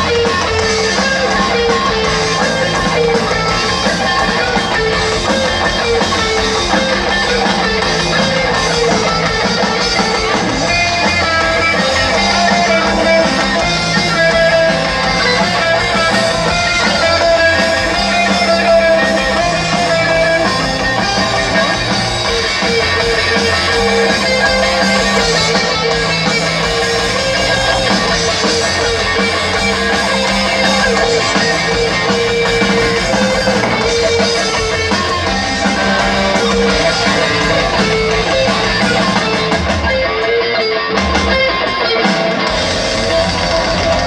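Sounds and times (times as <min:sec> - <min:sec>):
electric guitar: 0:00.0 - 0:44.0
rock band playing live: 0:00.0 - 0:44.0.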